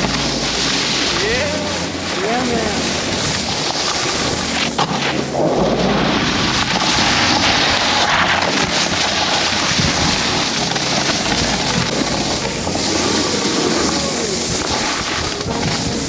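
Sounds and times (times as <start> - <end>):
snowboard sliding through snow: 0.0 - 16.0
wind on microphone: 0.0 - 16.0.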